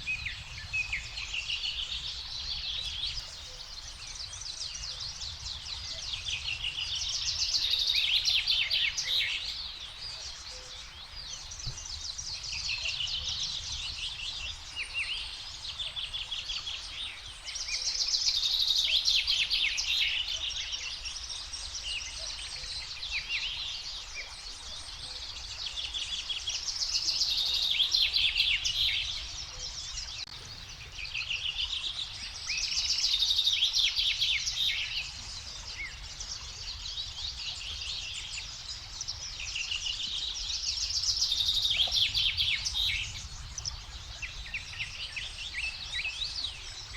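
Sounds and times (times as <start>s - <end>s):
songbirds trilling: 0.0s - 15.2s, 16.3s - 46.9s.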